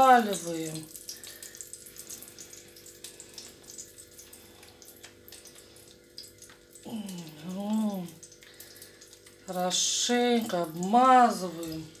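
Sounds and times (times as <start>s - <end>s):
fish frying in hot oil: 0.0s - 12.0s
steady low hum: 0.0s - 12.0s.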